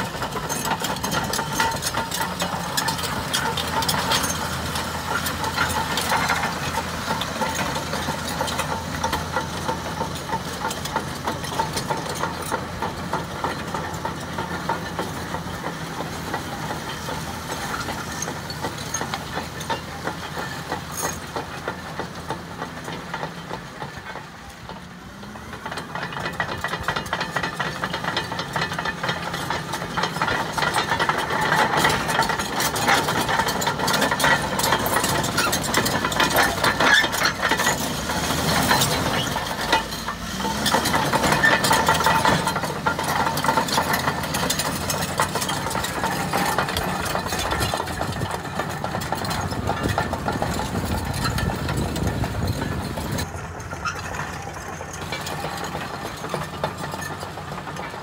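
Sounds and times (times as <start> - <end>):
dozer diesel engine running: 0.0 - 58.0
steel tracks clattering over stone: 0.0 - 58.0.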